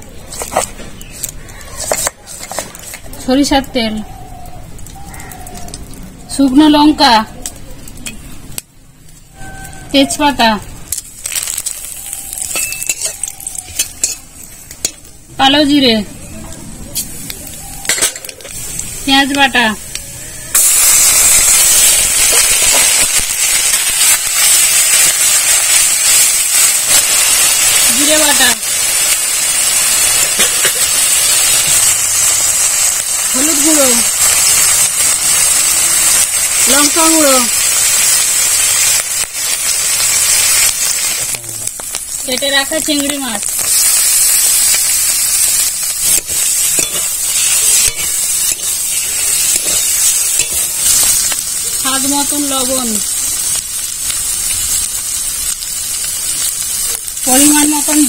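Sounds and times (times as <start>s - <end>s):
onion paste sizzling in oil: 0.0s - 58.0s.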